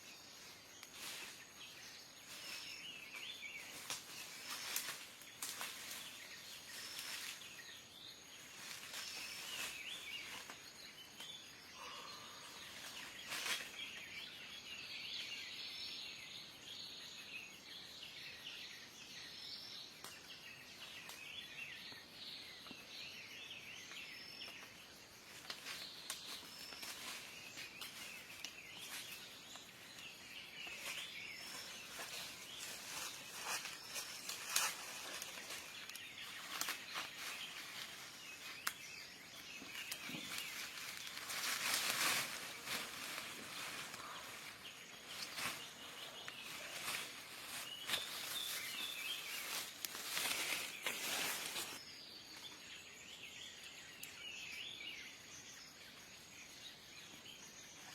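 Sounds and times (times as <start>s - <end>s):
insects buzzing faintly: 0.0s - 57.9s
small birds chirping: 0.0s - 57.9s.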